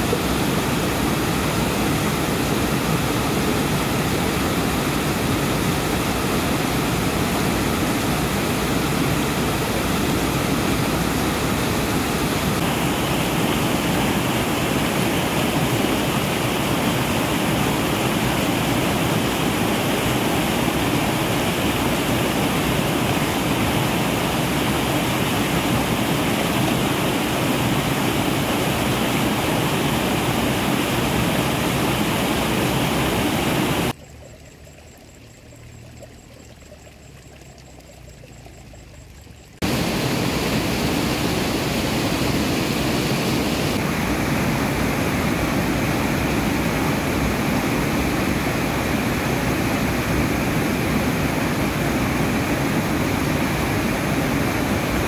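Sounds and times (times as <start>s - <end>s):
waterfall rushing: 0.0s - 33.9s, 39.6s - 55.0s.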